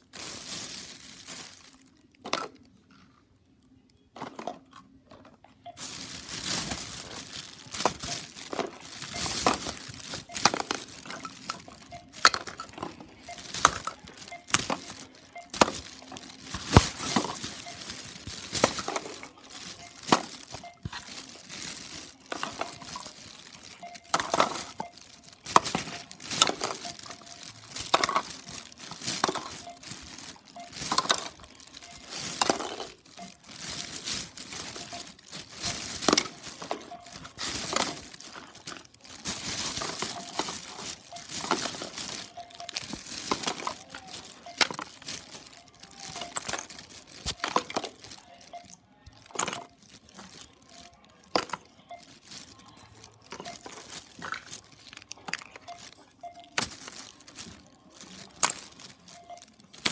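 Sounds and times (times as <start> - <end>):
plastic bags rustling: 0.0 - 3.1, 4.2 - 59.9.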